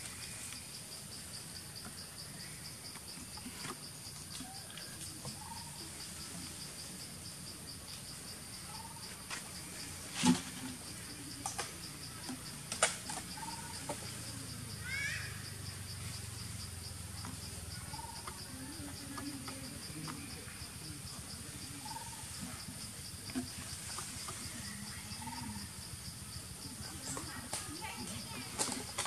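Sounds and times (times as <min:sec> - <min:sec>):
insect chirping pulsing evenly: 0:00.0 - 0:10.1, 0:10.8 - 0:28.4
high insect hiss: 0:00.0 - 0:29.0.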